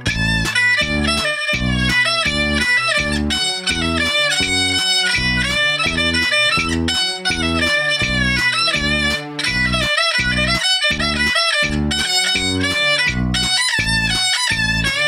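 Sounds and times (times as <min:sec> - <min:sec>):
electronic accompaniment low beat: 0:00.0 - 0:15.0
fiddle sliding melody: 0:00.0 - 0:15.0.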